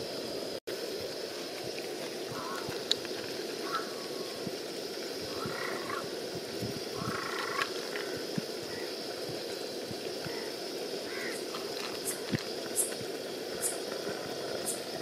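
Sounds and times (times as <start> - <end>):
pot simmering: 0.7 - 15.0.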